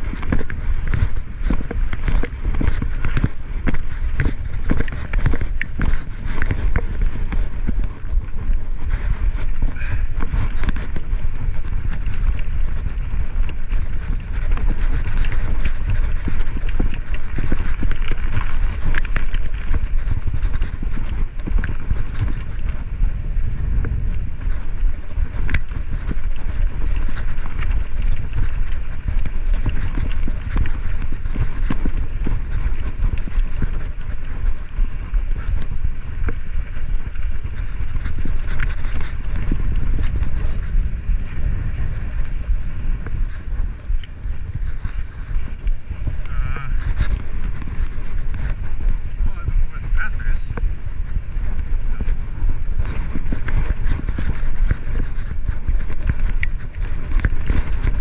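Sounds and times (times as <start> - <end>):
steady low rumble: 0.0 - 58.0
wind rushing over microphone: 0.0 - 58.0.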